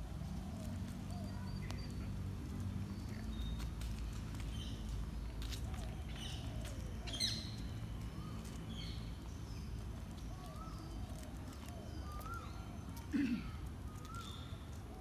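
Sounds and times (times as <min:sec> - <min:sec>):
birds chirping and calling: 0:00.2 - 0:15.0.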